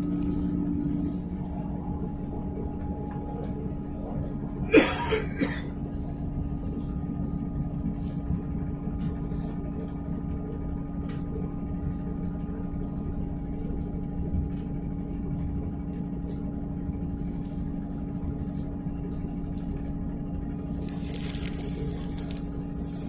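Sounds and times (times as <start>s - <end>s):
train carriage rumble and hum: 0.0s - 23.0s.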